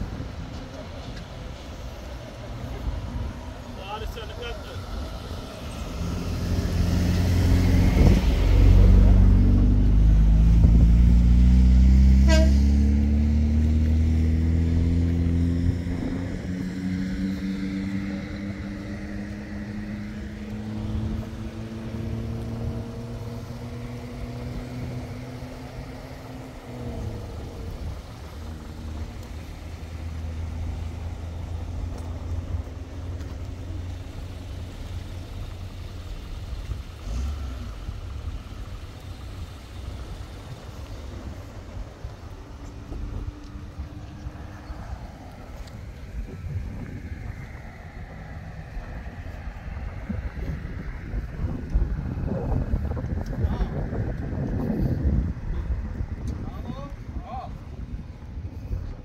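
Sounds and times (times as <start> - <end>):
low traffic rumble: 0.0 - 59.0
vehicle engine running: 0.0 - 59.0.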